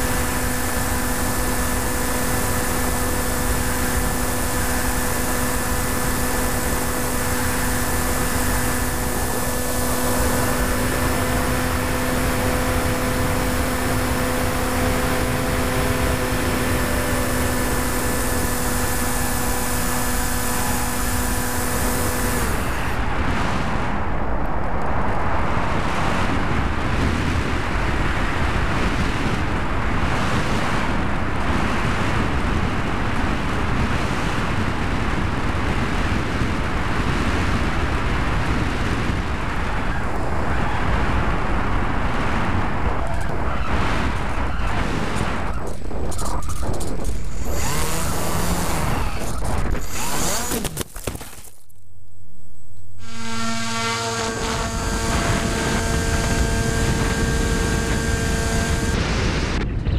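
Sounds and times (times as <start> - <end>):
electric motor whine: 0.0 - 23.0, 33.2 - 51.5, 52.5 - 59.6.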